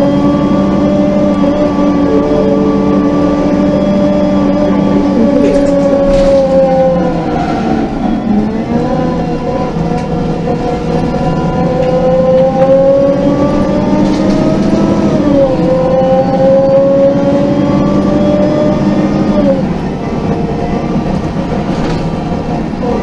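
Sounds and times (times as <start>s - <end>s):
bus transmission whine: 0.0s - 23.0s.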